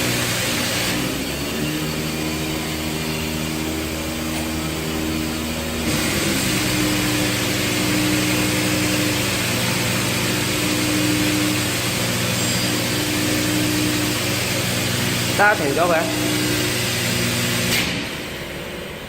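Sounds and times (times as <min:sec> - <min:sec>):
washing machine hum: 0:00.0 - 0:19.0.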